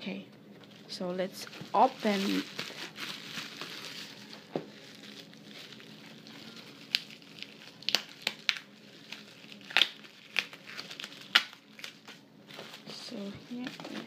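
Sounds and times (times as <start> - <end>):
bubble wrap crinkling and crackling: 0.6 - 14.0.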